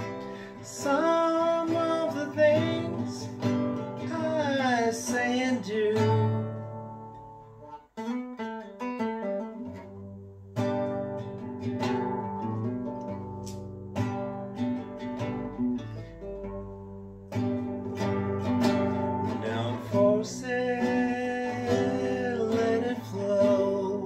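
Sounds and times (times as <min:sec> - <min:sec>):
classical guitar playing: 0:00.0 - 0:24.0.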